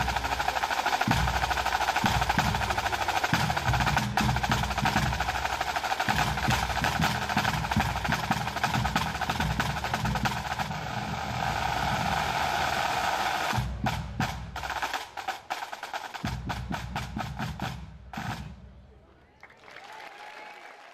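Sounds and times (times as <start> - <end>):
snare drums rolling: 0.0 - 18.6
tenor and bass drums: 0.0 - 18.8.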